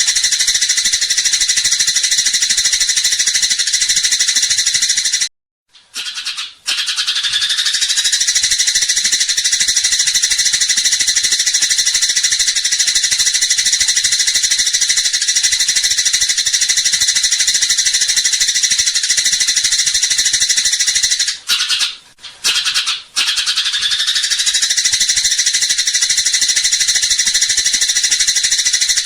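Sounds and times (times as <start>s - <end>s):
sparrow chattering: 0.0s - 5.3s, 6.0s - 29.0s.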